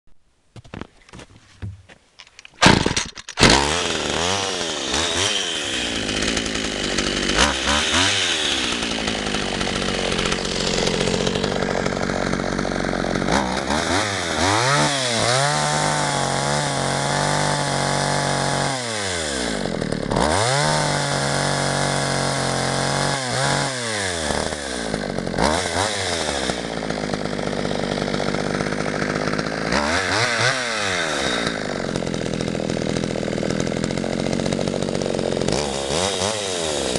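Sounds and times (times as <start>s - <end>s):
chainsaw revving and idling: 2.6s - 36.9s.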